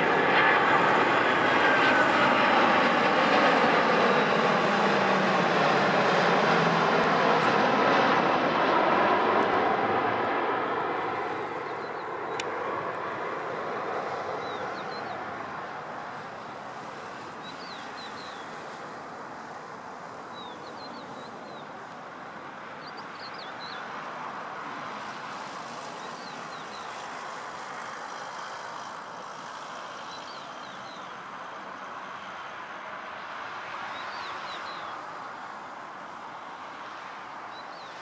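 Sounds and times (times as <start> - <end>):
jet engine rush: 0.0 - 38.0.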